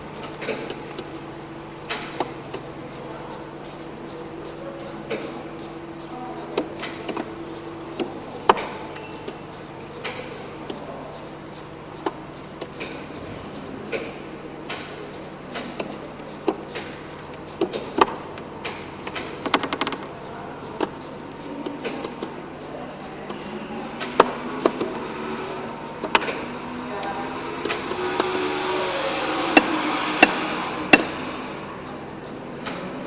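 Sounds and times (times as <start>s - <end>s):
sharp mechanical clicks and ticks: 1.8s - 28.4s.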